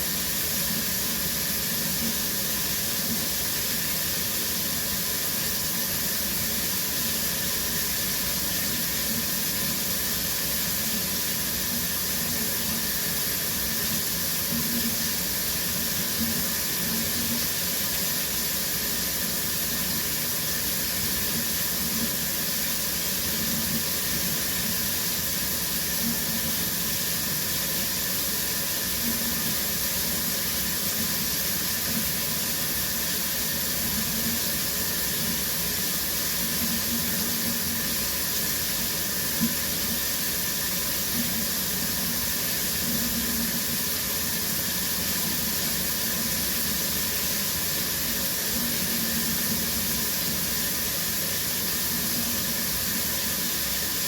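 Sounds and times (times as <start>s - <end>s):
shower water running: 0.0s - 54.0s.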